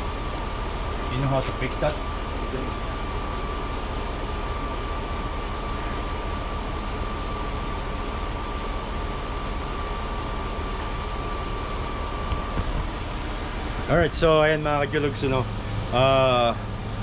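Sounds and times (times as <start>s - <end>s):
high engine whine: 0.0s - 17.0s
truck engine idling: 0.0s - 17.0s.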